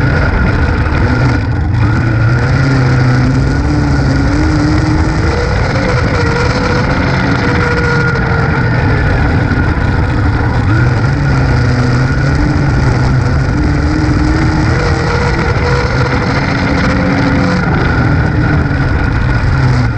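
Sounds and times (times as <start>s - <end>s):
race car engine: 0.0s - 19.9s
wind noise: 0.0s - 19.9s.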